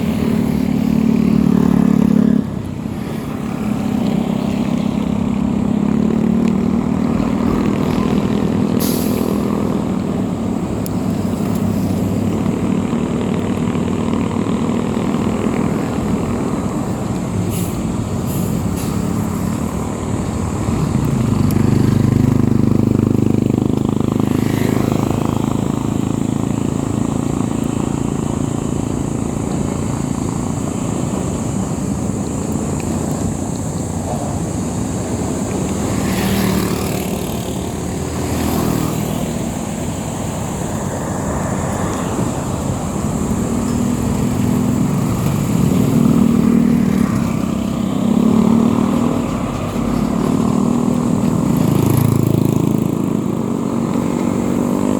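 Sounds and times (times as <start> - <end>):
road and wind noise: 0.0 - 54.9
vehicle engine running: 0.0 - 54.9.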